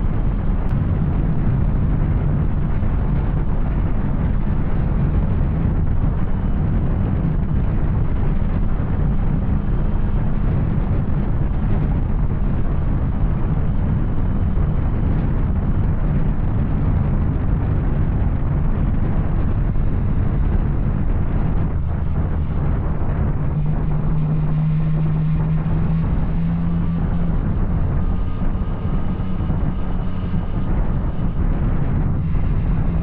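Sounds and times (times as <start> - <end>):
motorcycle engine cruising: 0.0 - 33.0
wind noise on microphone: 0.0 - 33.0.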